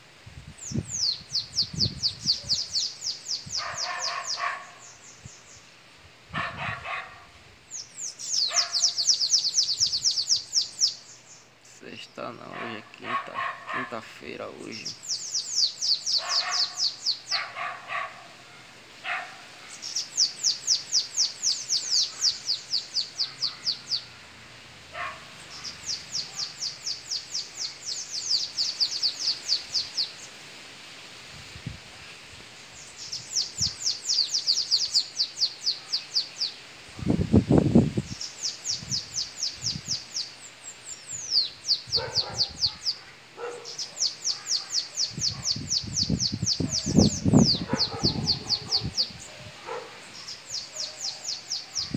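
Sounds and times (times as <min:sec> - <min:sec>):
birds singing high thin notes: 0:00.5 - 0:05.8, 0:06.4 - 0:18.3, 0:19.6 - 0:24.3, 0:25.1 - 0:30.4, 0:32.5 - 0:51.9.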